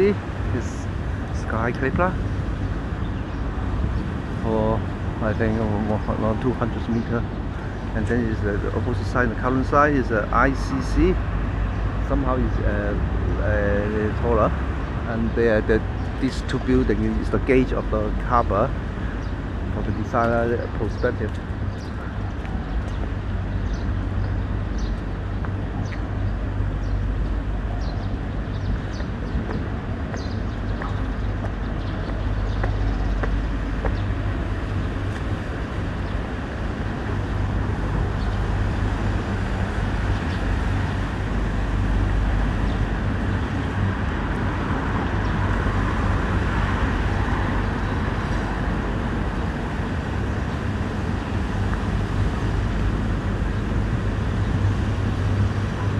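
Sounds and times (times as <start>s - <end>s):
road traffic rumble: 0.0s - 55.9s.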